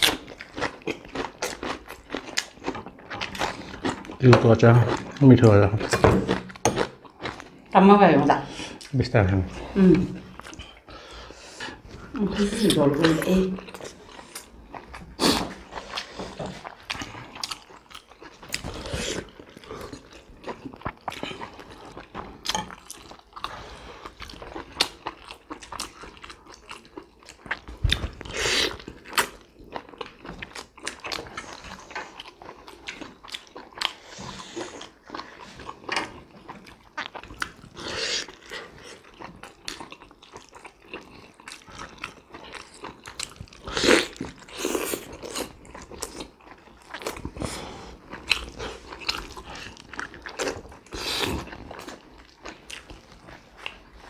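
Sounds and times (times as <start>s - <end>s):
people chewing and smacking: 0.0s - 54.0s.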